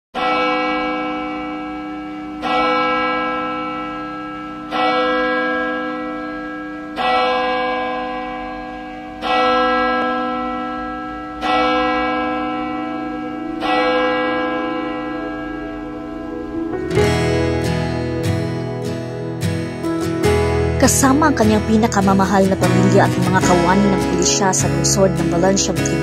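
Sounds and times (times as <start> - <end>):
church bell tolling: 0.2 - 26.0.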